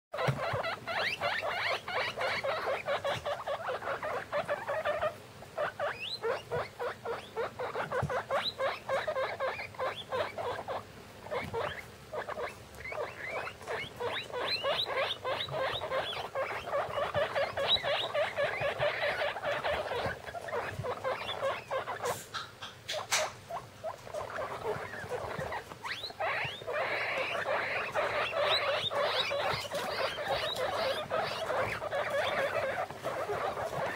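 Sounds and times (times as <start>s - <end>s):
guinea pigs squeaking: 0.1s - 33.9s.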